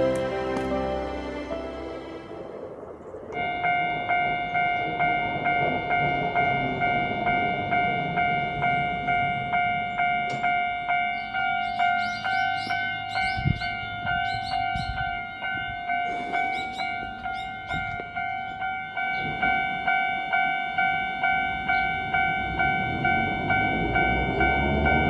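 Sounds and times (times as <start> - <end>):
railroad crossing bell ringing: 0.0 - 25.0
train rumbling: 0.0 - 25.0.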